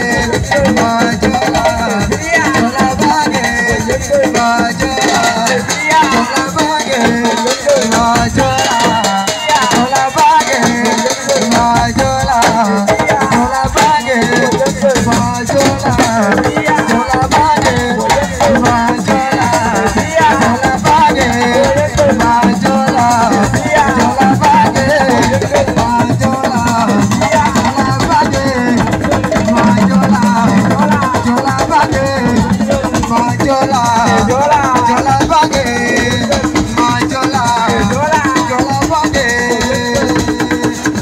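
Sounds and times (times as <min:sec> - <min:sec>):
drums beating: 0:00.0 - 0:41.0.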